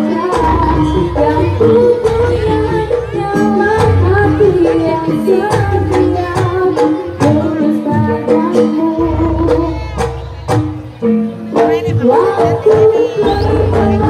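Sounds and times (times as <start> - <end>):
drum strokes and deep beats: 0.0 - 14.0
person singing: 0.0 - 14.0.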